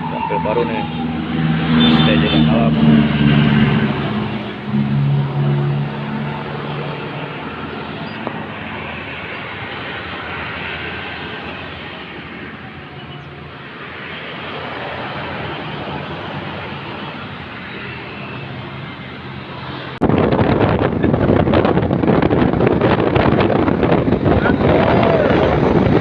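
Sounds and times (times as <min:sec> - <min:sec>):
low engine hum: 0:00.0 - 0:26.0
road traffic passing: 0:00.0 - 0:26.0.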